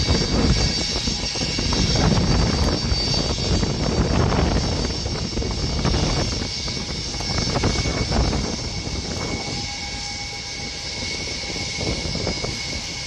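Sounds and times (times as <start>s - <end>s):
jet engine rumble and whine: 0.0s - 13.0s.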